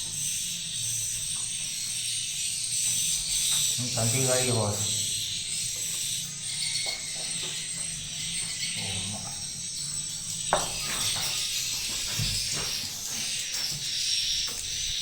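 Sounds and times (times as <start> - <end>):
swiftlets twittering: 1.9 - 15.0.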